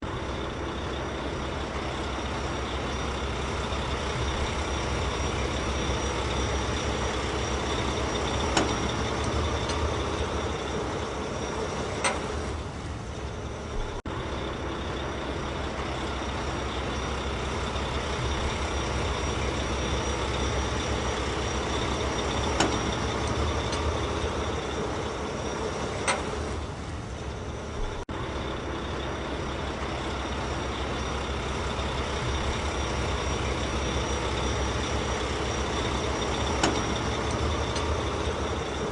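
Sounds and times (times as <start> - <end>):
heavy vehicle engine: 0.0 - 38.9.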